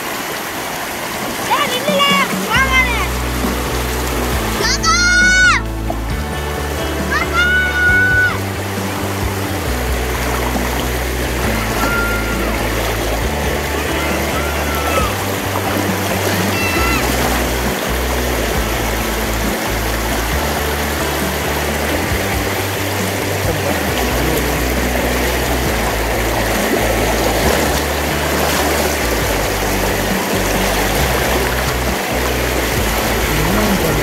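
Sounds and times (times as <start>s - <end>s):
stream flowing over rock: 0.0s - 34.0s
music with stepping bass line: 2.6s - 34.0s.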